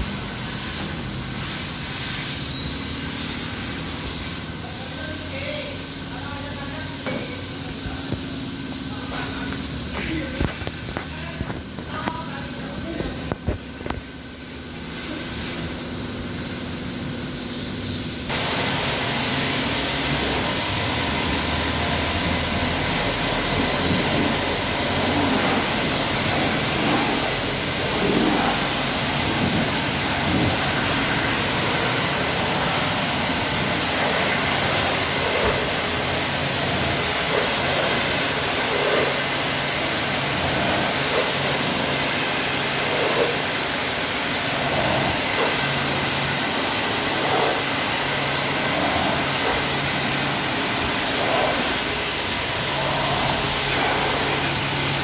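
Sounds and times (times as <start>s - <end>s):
pressure washer spraying water: 0.0s - 55.0s.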